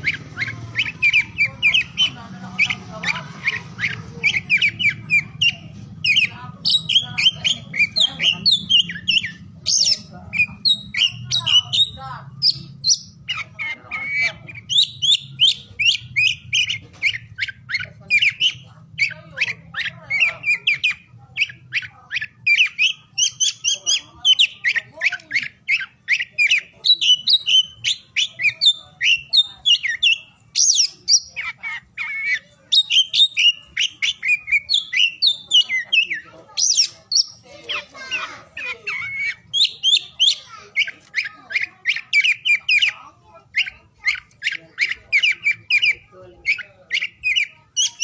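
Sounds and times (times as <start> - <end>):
bird singing whistles and chirps: 0.0 - 48.0.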